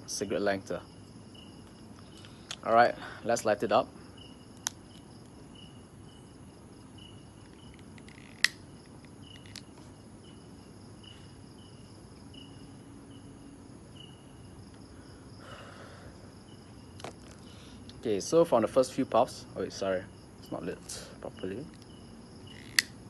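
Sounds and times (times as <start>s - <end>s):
night insects chirping: 0.0s - 23.0s.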